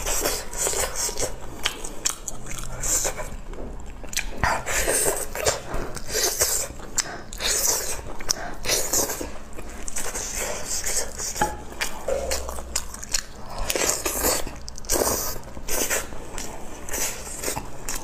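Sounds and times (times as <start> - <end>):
chewing meat: 0.0 - 18.0.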